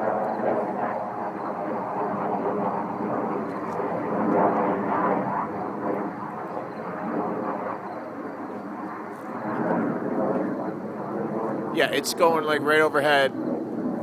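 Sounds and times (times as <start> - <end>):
jet-like roar in the sky: 0.0 - 14.0.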